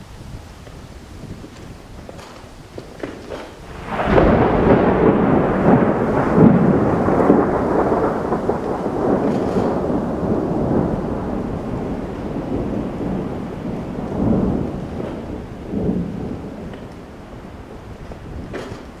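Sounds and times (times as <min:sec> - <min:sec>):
deep rolling rumble: 0:00.0 - 0:19.0.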